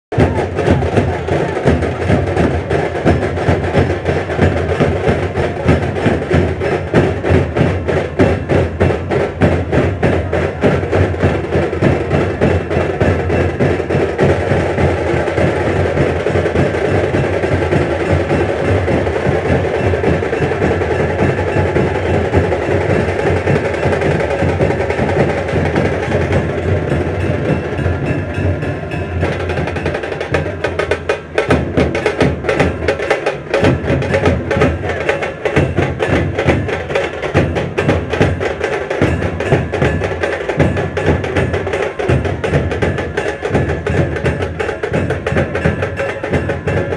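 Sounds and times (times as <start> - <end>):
drums and percussion beat: 0.1 - 46.9
street band playing processional music: 0.1 - 46.9.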